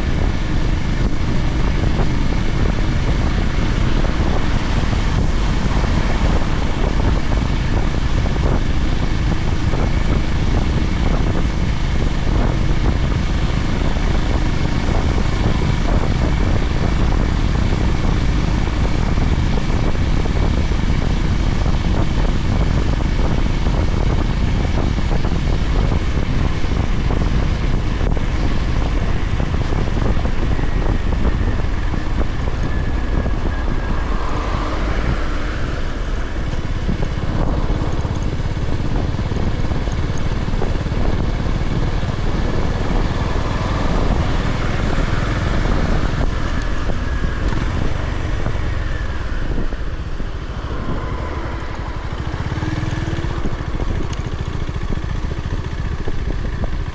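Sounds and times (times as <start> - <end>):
motorcycle engine droning: 0.0 - 56.9
wind and road rush: 0.0 - 56.9.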